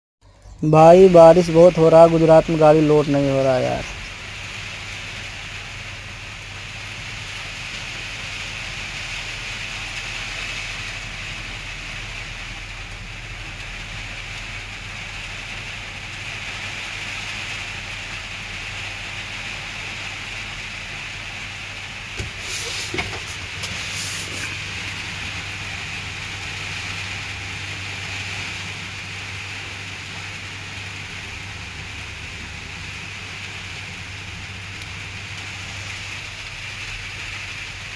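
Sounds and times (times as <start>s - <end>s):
heavy rain: 0.6s - 37.9s.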